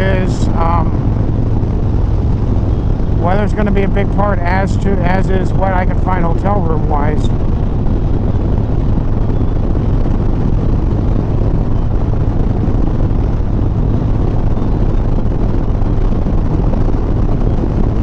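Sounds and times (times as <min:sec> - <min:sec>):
motorcycle engine running: 0:00.0 - 0:18.0
wind rushing on microphone: 0:00.0 - 0:18.0.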